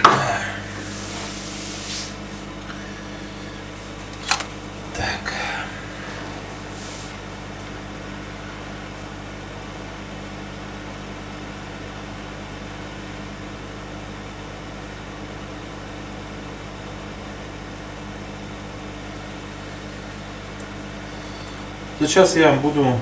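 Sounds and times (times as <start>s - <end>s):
fan whir: 0.0s - 23.0s
low electrical hum: 0.0s - 23.0s.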